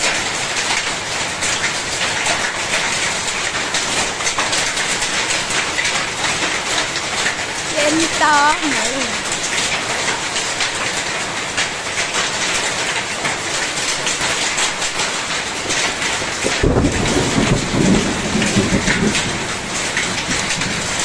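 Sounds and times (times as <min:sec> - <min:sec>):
heavy rain and hail: 0:00.0 - 0:21.0.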